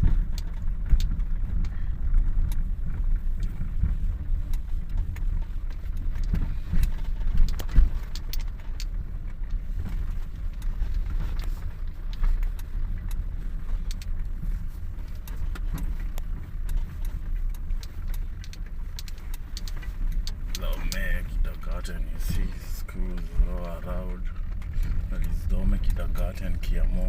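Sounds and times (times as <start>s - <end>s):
car road rumble on dirt: 0.0s - 27.0s
clicks and knocks from rough road: 0.0s - 27.0s.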